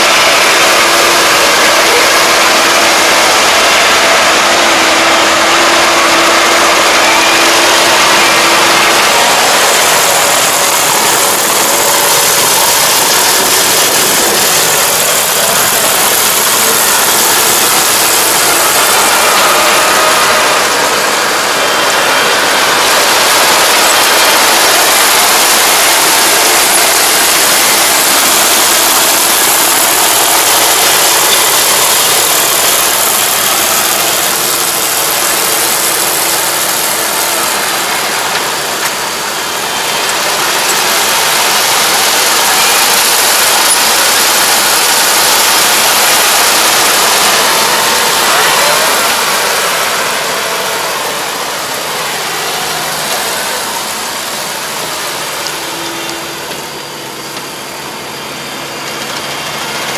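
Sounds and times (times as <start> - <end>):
combine harvester working: 0.0 - 59.9.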